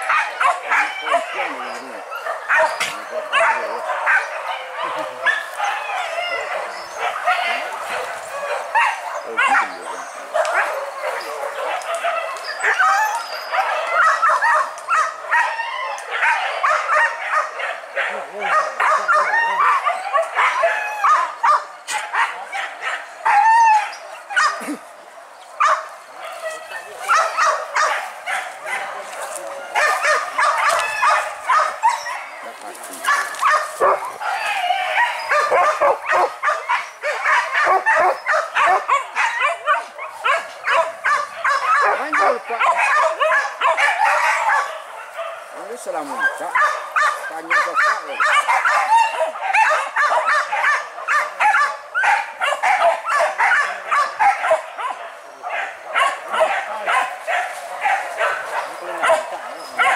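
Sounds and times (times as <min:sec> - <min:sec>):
dogs barking and yelping: 0:00.0 - 0:59.9.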